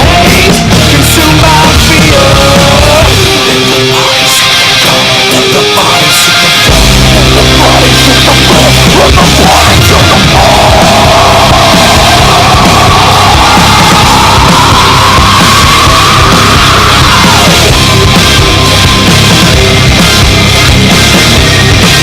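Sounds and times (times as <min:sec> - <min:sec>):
heavy metal music: 0:00.0 - 0:22.0.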